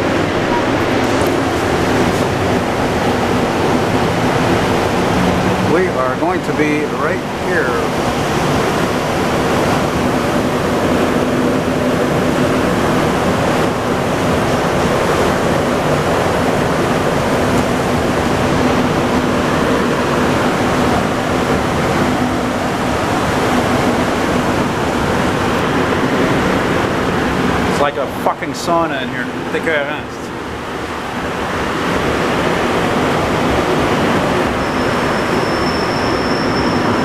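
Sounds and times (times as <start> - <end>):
subway car rolling noise: 0.0 - 37.0.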